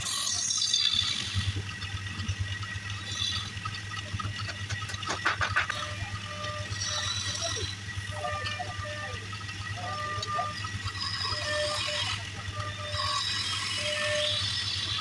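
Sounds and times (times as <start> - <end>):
wood lathe motor running: 0.0 - 15.0.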